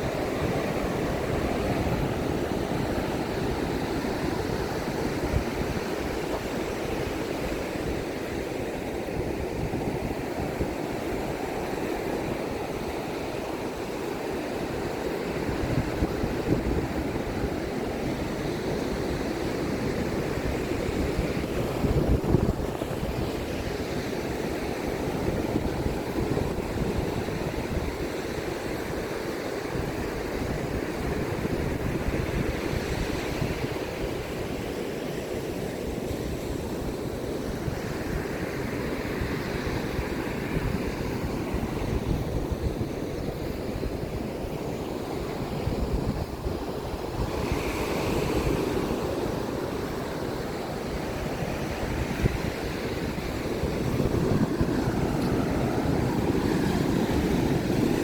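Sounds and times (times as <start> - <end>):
ocean surf washing ashore: 0.0 - 58.0
wind rumbling on microphone: 0.0 - 58.0.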